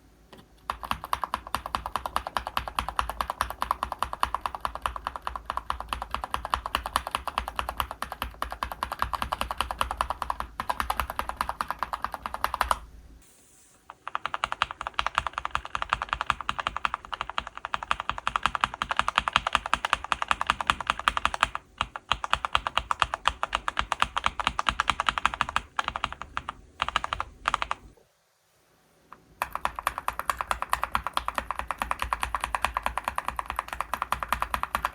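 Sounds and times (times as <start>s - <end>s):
fast typing on mechanical keyboard: 0.7s - 12.8s, 13.9s - 28.0s, 29.4s - 34.9s.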